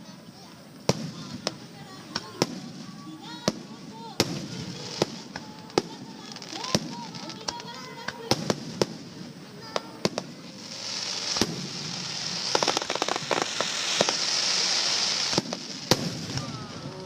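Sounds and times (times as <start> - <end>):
fireworks crackling hiss: 0.0 - 17.0
firework bangs: 0.8 - 17.0.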